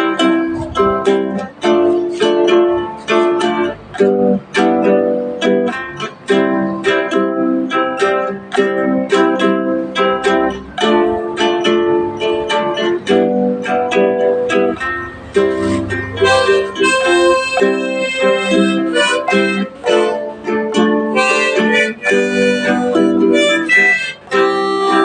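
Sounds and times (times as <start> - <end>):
plucked string instrument strumming: 0.0 - 25.0.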